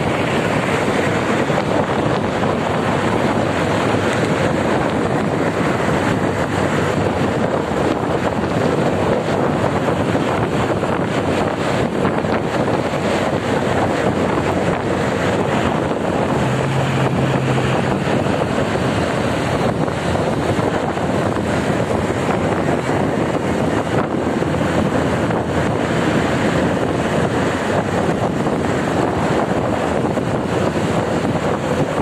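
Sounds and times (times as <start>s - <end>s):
road and traffic noise: 0.0s - 32.0s
wind buffeting microphone: 0.0s - 32.0s.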